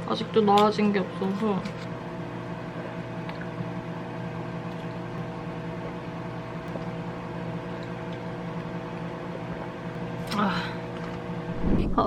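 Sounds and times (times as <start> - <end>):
appliance machine hum: 0.0 - 12.0.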